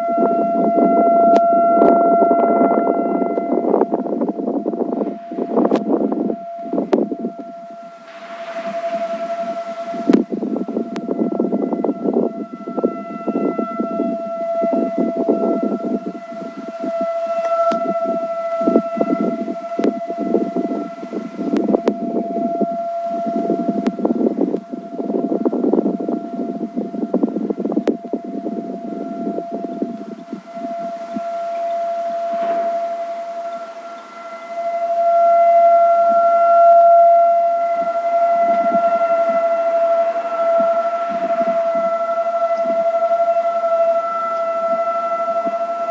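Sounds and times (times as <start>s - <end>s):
electronic siren steady tone: 0.0s - 45.9s
wind noise on microphone: 0.0s - 45.9s.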